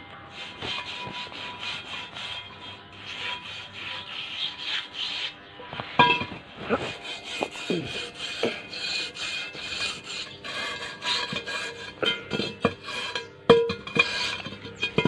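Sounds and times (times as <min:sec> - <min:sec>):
sandpaper rasping on metal rim: 0:00.3 - 0:05.4, 0:06.7 - 0:15.0.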